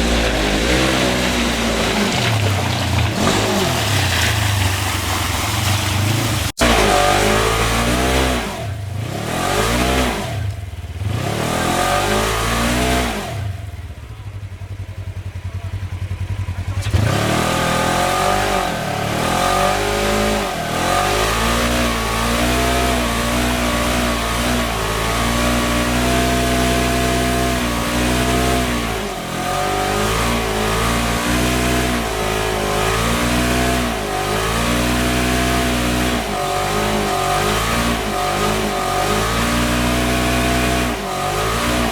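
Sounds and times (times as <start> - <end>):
utility vehicle engine revving: 0.0 - 41.9.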